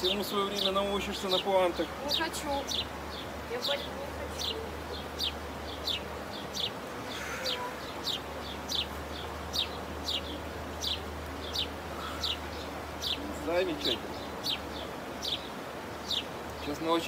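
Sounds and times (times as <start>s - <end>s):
bird chirping: 0.0s - 17.0s
steady background hiss: 0.0s - 17.0s.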